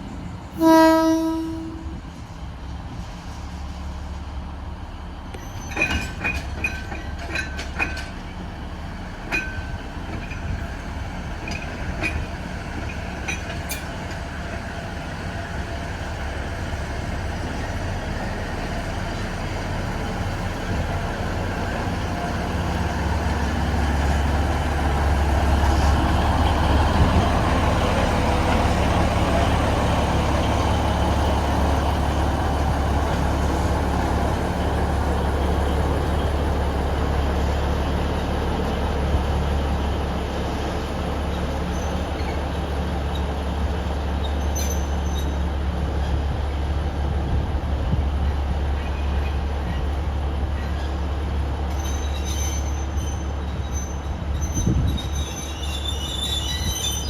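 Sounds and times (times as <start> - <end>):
diesel engine rumble: 0.0 - 57.0
metallic clanks of wheels on rail: 5.3 - 57.0.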